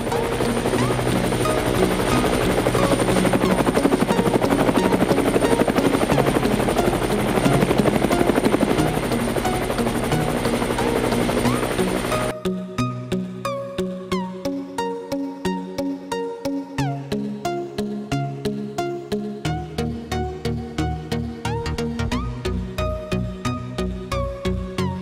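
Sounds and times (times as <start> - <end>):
background music: 0.0 - 25.0.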